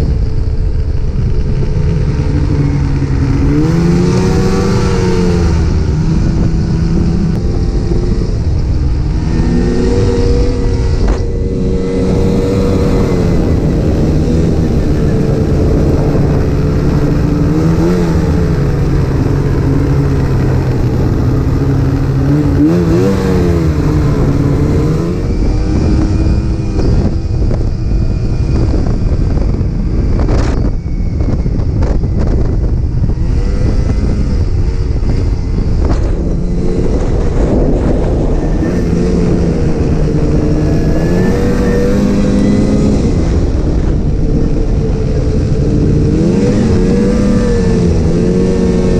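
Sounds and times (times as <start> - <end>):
snowmobile engine running: 0.0 - 48.9
steady rushing noise: 0.0 - 48.9.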